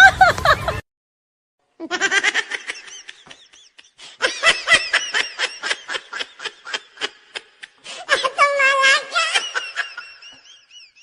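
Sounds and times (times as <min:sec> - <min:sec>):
high-pitched laughter: 0:00.0 - 0:00.8, 0:01.8 - 0:11.0.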